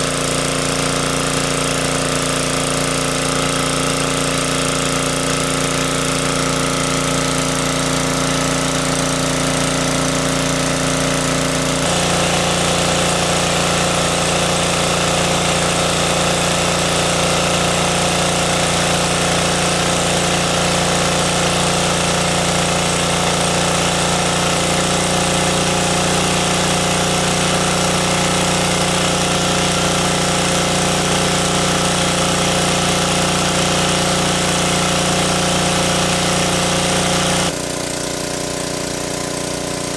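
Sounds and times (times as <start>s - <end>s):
engine running: 0.0s - 37.6s.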